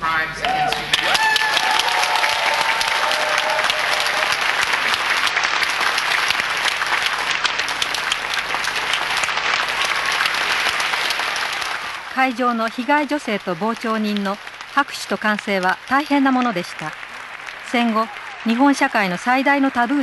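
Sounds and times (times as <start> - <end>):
audience applauding: 0.4 - 20.0.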